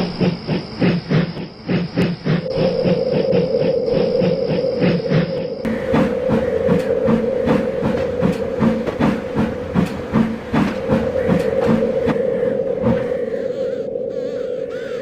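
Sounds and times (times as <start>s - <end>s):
steam train running: 0.0s - 14.3s.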